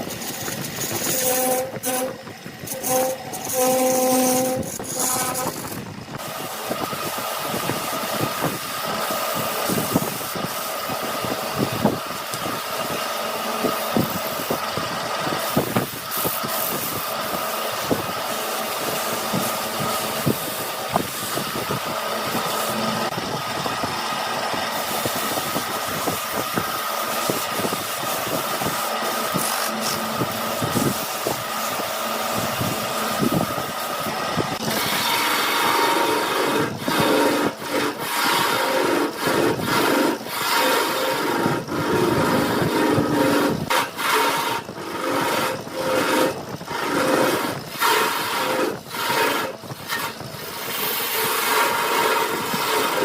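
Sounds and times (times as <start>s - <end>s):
tool scraping spinning wood: 0.0s - 53.0s
wood lathe running: 0.0s - 53.0s.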